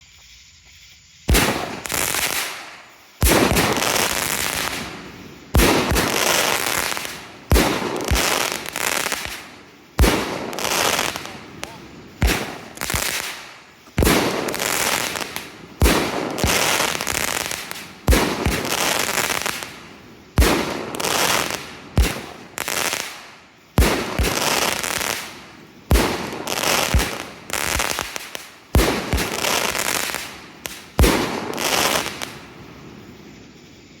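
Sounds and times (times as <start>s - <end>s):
firework bangs: 1.2s - 33.4s
firework crackling tail: 1.2s - 33.7s.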